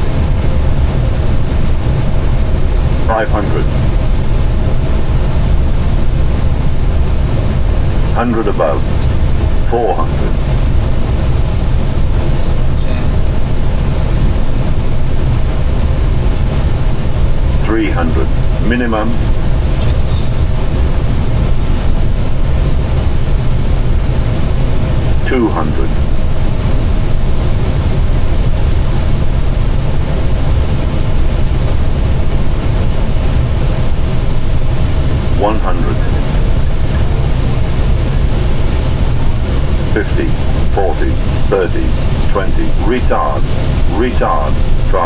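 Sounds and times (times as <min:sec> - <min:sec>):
airplane cockpit engine rumble: 0:00.0 - 0:45.0
automatic altitude callouts: 0:00.0 - 0:45.0
faint steady hum: 0:00.0 - 0:45.0.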